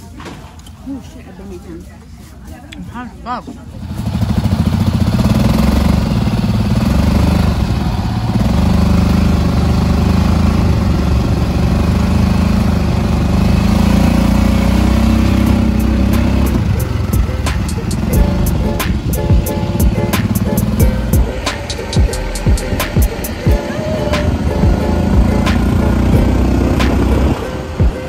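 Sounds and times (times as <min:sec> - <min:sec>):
dune buggy engine running: 0:03.6 - 0:28.0.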